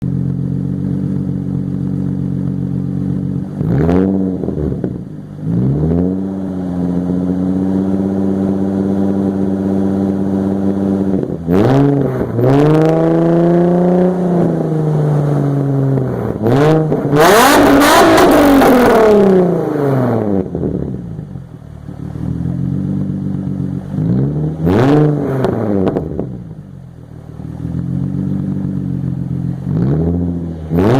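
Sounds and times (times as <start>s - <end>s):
engine idling and revving: 0.0s - 30.9s.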